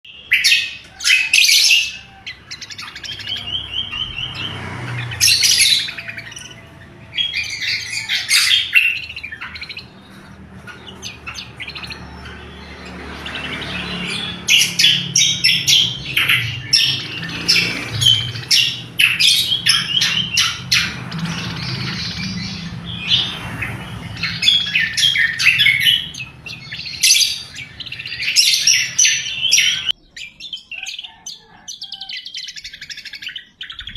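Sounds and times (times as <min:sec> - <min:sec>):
bird chirping and trilling: 0:00.0 - 0:33.9.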